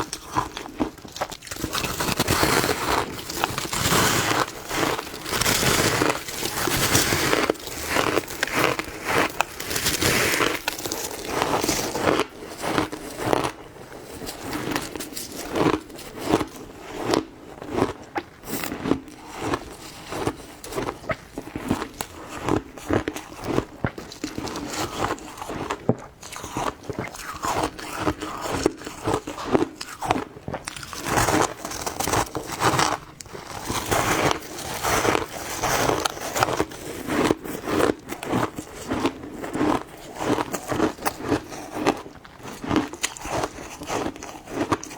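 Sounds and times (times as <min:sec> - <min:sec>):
person crunching ice: 0:00.0 - 0:44.9.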